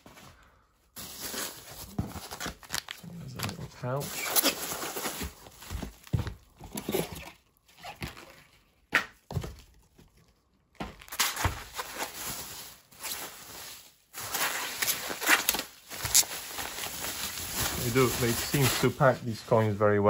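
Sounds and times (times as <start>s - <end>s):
packaging rustling: 1.0s - 8.6s, 11.0s - 19.8s.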